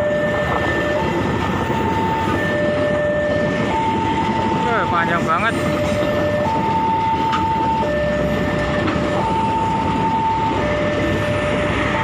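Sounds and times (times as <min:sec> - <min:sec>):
train coaches rumbling past: 0:00.0 - 0:12.0
two-tone crossing alarm: 0:00.0 - 0:12.0.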